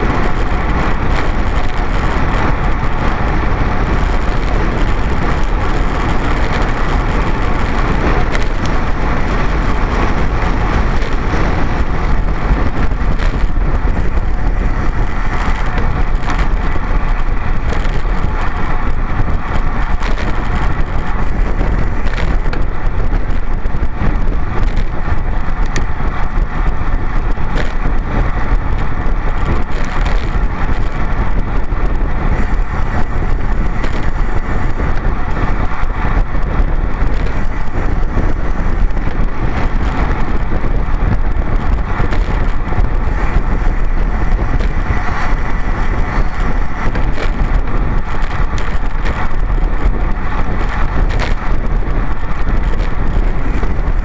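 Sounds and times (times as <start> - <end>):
road rumble: 0.0 - 54.0
wind rush on microphone: 0.0 - 54.0.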